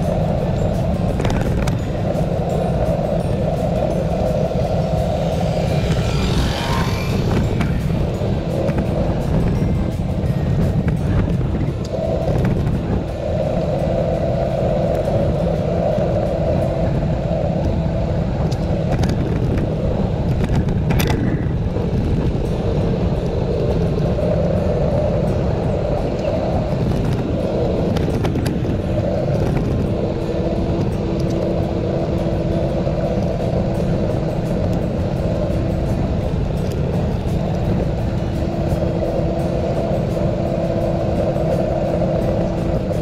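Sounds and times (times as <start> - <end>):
steady hum: 0.0 - 43.0
wheels rolling on pavement: 0.0 - 43.0
wind on microphone: 0.0 - 43.0.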